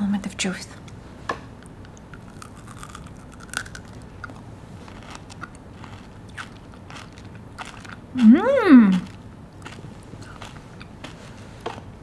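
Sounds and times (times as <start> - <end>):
chocolate crunching and chewing: 1.6 - 12.0.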